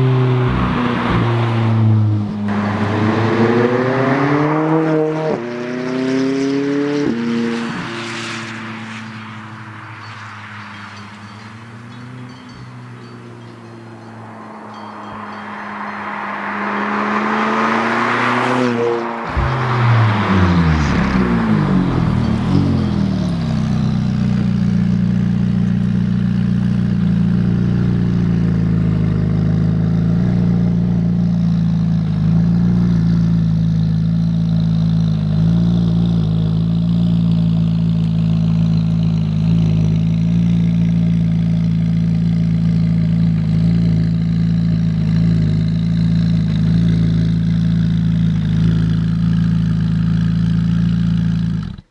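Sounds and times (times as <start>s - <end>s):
car engine idling: 0.0s - 4.4s, 9.0s - 51.9s.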